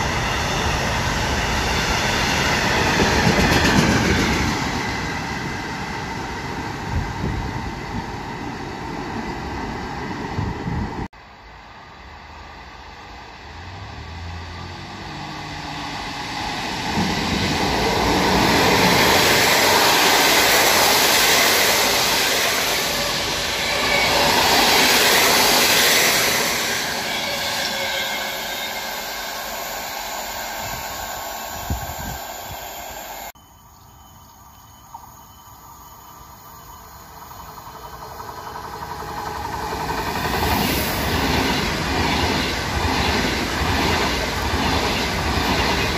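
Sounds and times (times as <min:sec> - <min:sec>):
train passing on track: 0:00.0 - 0:45.9.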